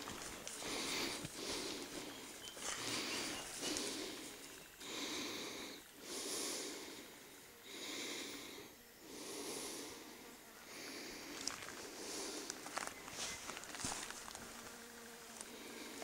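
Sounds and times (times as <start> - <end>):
person breathing heavily: 0.0 - 12.8, 15.5 - 16.0.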